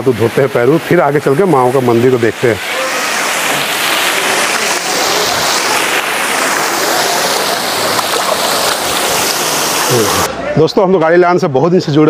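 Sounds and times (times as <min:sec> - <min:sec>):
fountain water splashing into pool: 0:00.0 - 0:10.3.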